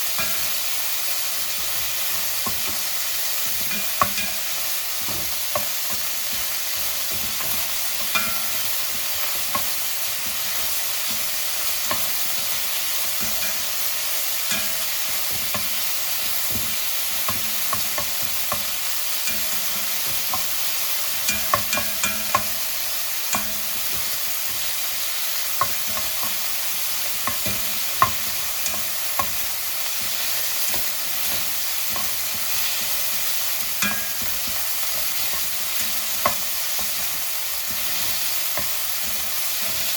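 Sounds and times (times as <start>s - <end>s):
rice sizzling in a hot pan: 0.0s - 39.9s
utensil scraping a pan: 1.5s - 39.9s.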